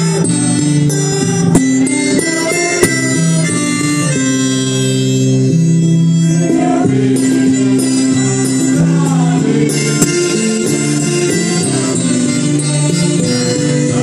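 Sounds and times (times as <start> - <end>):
slow hymn-like held chords: 0.0 - 14.0.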